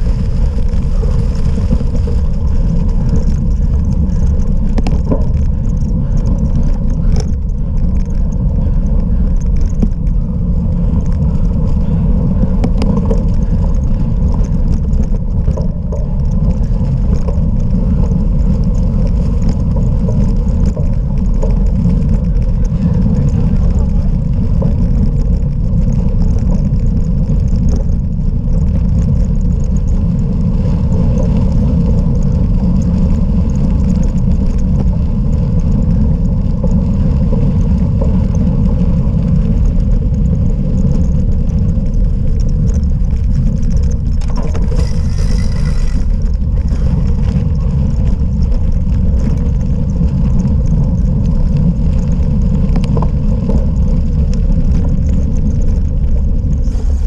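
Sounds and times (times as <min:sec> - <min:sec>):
wind and ground vibration rumble: 0:00.0 - 0:57.0.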